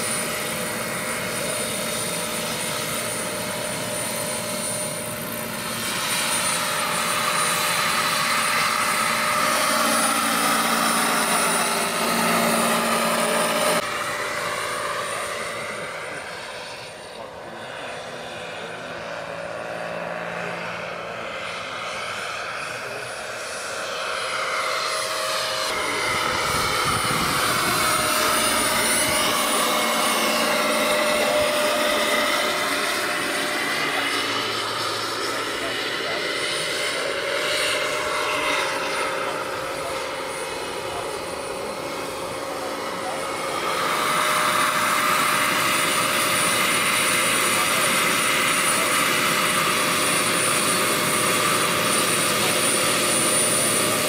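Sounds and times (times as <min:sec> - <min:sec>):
model helicopter motor whine: 0:00.0 - 0:54.0.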